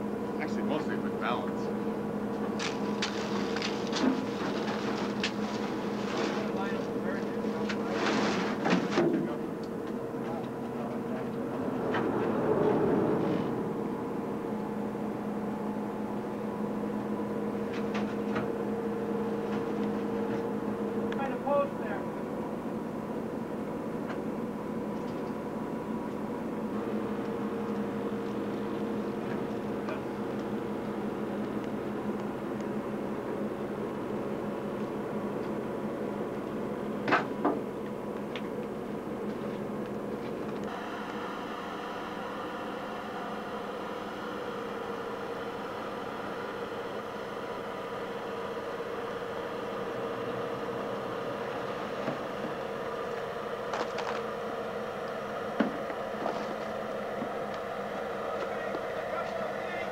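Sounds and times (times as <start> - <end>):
engine hum: 0.0 - 59.9.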